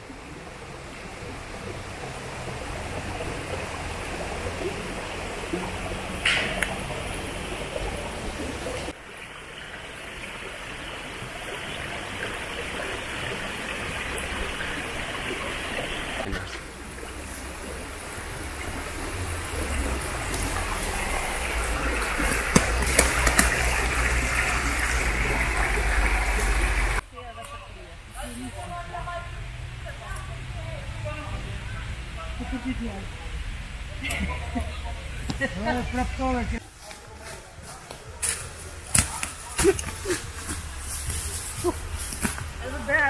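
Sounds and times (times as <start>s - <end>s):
stream rushing: 0.0s - 27.0s, 30.6s - 43.0s.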